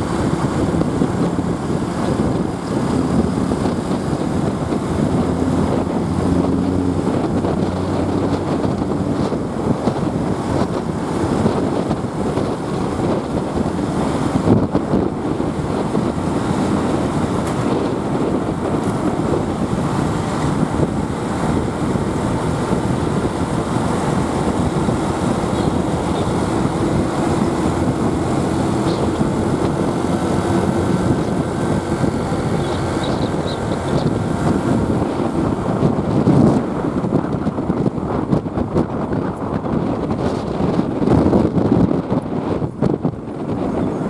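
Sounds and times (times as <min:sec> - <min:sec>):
motorbike engine: 0:00.0 - 0:44.0
traffic: 0:00.0 - 0:44.0
wind rushing over microphone: 0:00.0 - 0:44.0.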